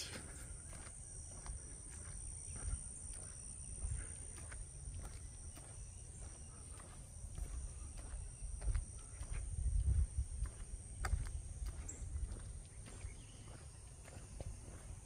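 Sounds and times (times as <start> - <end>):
footsteps on a trail: 0.0 - 15.0
swamp insects droning: 0.0 - 15.0.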